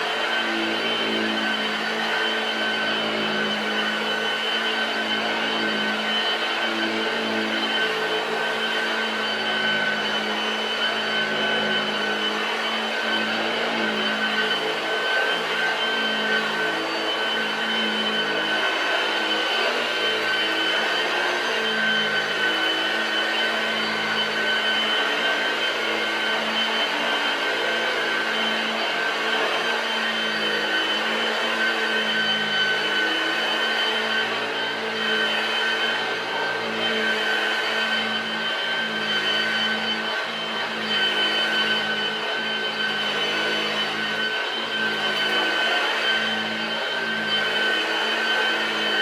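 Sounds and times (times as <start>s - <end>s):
vacuum cleaner motor whine: 0.0s - 49.0s.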